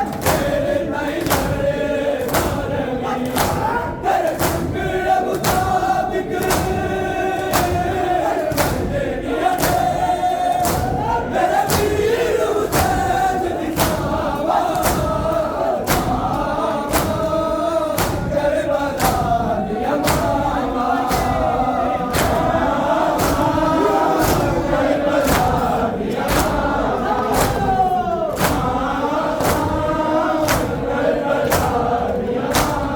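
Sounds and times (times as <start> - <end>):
chest-beating slaps: 0.0 - 32.9
crowd chanting in unison: 0.0 - 32.9.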